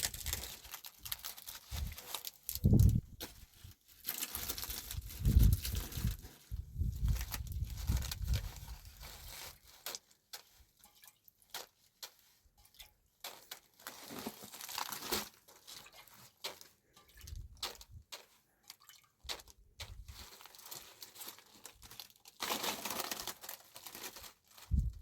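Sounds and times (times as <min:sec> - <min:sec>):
rustling and crinkling: 0:00.0 - 0:25.0.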